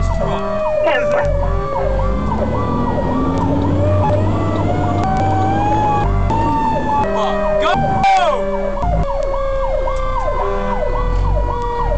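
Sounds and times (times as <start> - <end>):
engine low rumble: 0.0 - 11.9
fast cycling siren: 0.0 - 11.9
slow gliding siren tone: 0.0 - 11.9.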